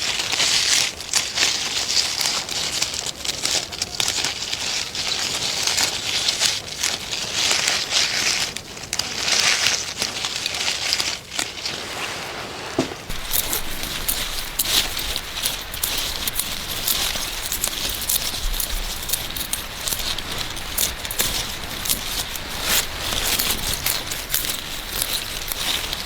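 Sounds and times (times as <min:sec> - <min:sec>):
dry plants crackling and rustling: 0:00.0 - 0:26.0.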